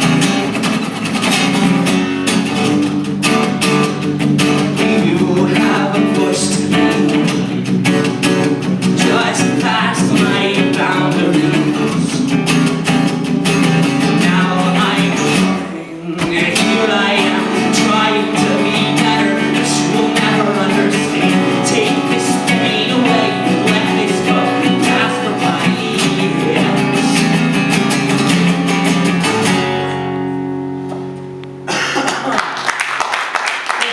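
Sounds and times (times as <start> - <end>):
live band with strummed guitar: 0.0 - 32.6.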